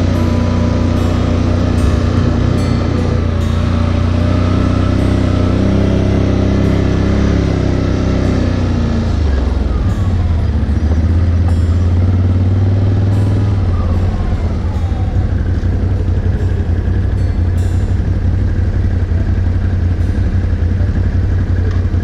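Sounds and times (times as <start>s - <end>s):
atv engine droning: 0.0s - 22.0s.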